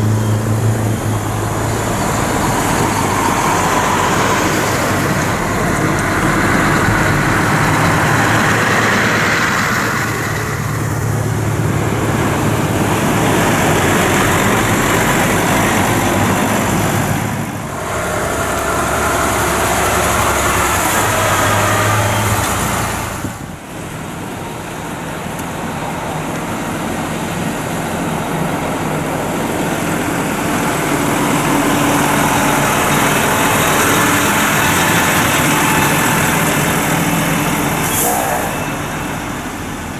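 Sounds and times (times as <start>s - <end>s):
lorry engines passing: 0.0s - 39.9s.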